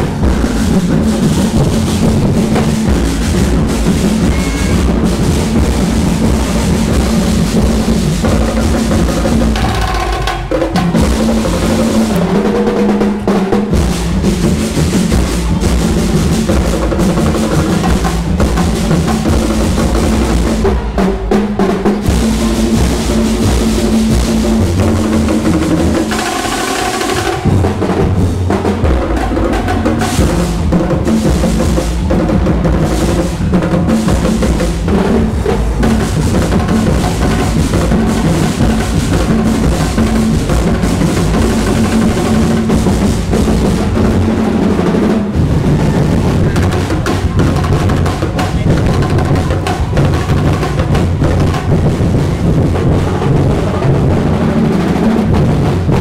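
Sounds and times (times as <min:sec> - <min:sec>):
drum and percussion ensemble: 0:00.0 - 0:56.0.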